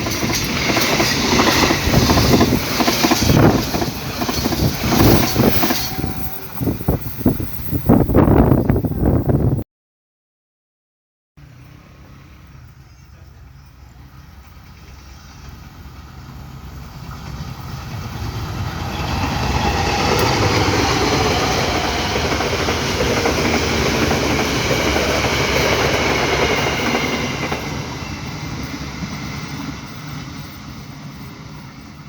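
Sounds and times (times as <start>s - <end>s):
train passing by rumbling: 0.0s - 9.6s, 11.4s - 32.0s.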